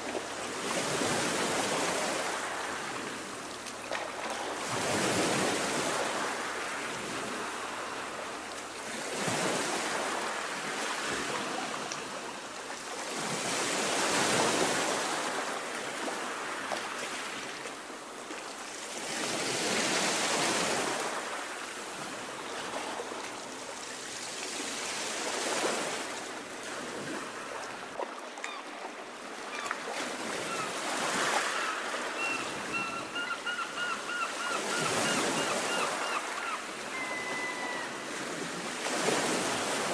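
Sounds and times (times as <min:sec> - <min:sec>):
choppy sea waves washing in: 0:00.0 - 0:39.9.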